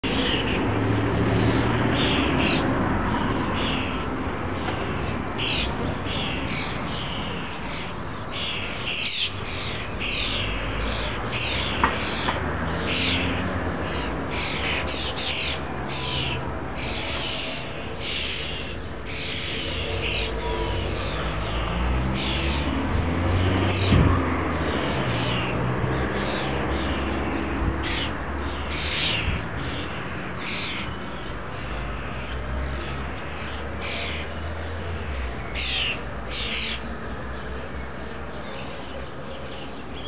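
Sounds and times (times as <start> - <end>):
birds calling high slurred notes: 0.0 - 40.0.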